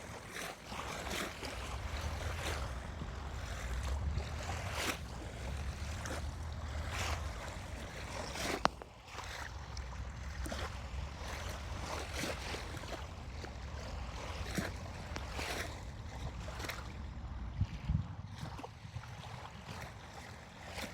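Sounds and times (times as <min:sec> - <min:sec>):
waves lapping on beach: 0:00.0 - 0:20.9
wind rumble on microphone: 0:00.0 - 0:20.9.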